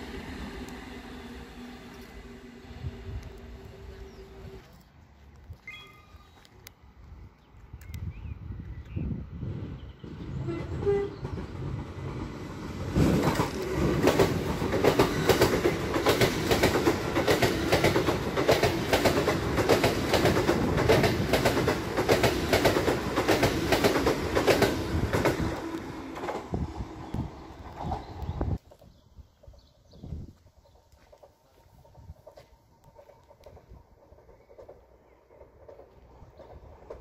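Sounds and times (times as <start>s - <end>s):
train rumbling past: 0.0s - 5.4s, 8.4s - 37.0s.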